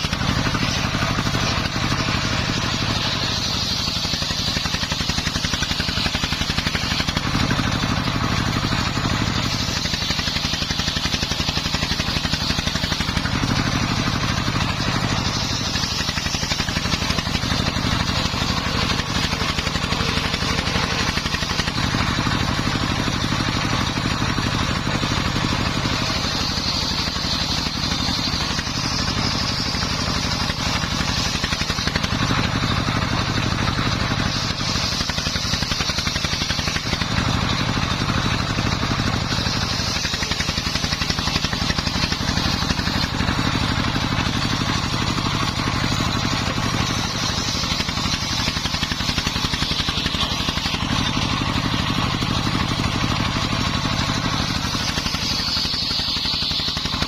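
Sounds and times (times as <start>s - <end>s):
circular saw cutting timber: 0.0s - 57.0s
diesel engine thudding: 0.0s - 57.0s
high whine: 0.0s - 57.0s.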